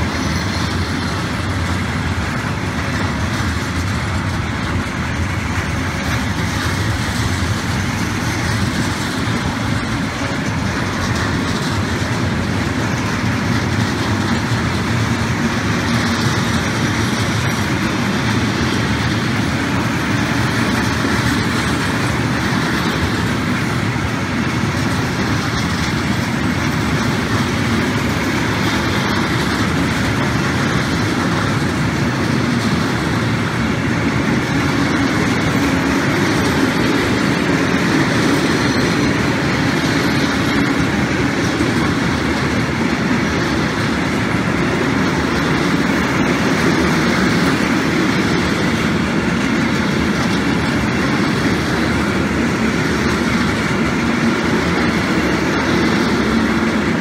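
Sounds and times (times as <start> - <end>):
train wheels running over rails: 0.0 - 57.0.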